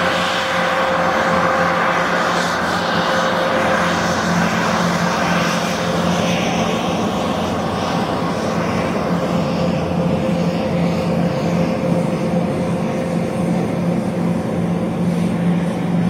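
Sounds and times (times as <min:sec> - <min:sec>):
constant hum: 0:00.0 - 0:16.0
helicopter turbine whine and rotors: 0:00.0 - 0:16.0.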